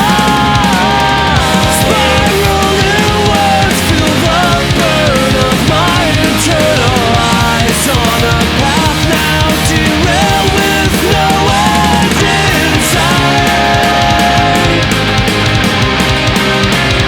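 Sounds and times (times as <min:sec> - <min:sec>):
bass: 0:00.0 - 0:17.0
distorted electric guitars: 0:00.0 - 0:17.0
fast driving drums: 0:00.0 - 0:17.0.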